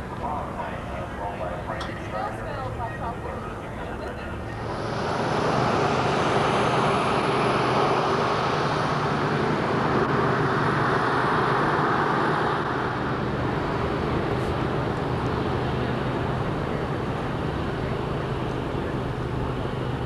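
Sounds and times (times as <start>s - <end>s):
propeller aircraft engine droning: 0.0s - 20.0s.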